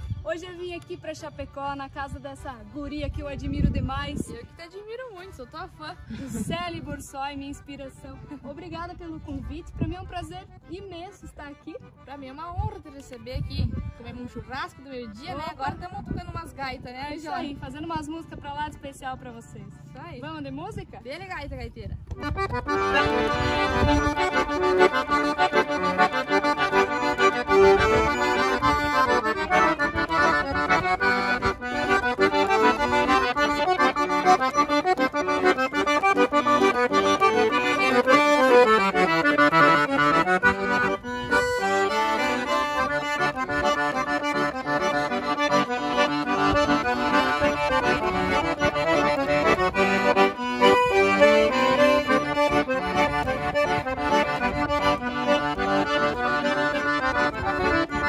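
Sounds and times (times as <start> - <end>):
accordion duet: 0.0 - 58.0.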